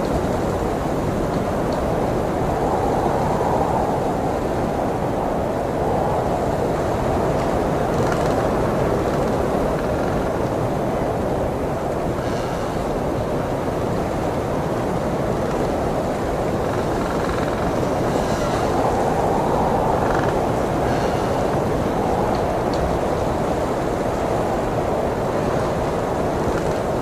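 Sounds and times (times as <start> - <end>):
blizzard wind blowing: 0.0 - 27.0.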